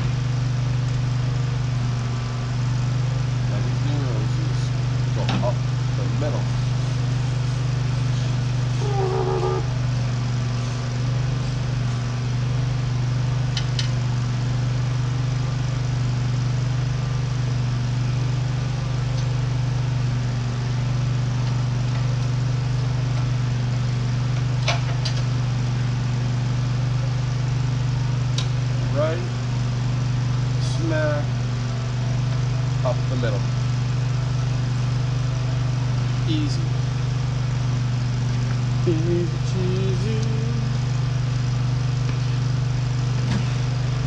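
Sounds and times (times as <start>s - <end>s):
machinery humming: 0.0s - 44.0s.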